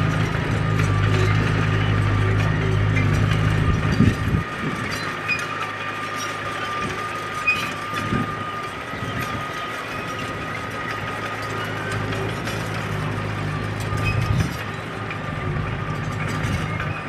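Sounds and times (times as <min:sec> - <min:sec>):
bulldozer diesel engine hum: 0:00.0 - 0:17.0
steel tracks clanking: 0:00.0 - 0:17.0.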